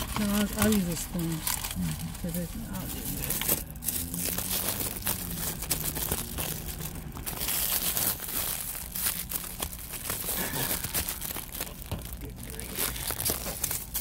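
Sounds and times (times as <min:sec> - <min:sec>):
paper food wrapping crinkling: 0:00.0 - 0:14.0.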